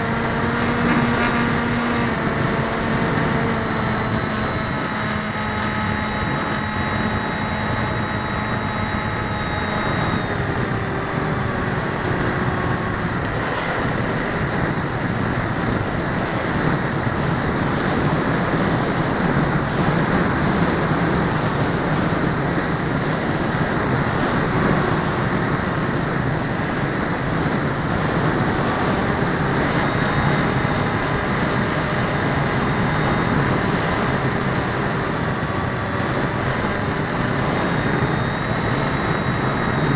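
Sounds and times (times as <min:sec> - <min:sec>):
model aircraft motor whine: 0:00.0 - 0:39.9
wind rush: 0:00.0 - 0:39.9.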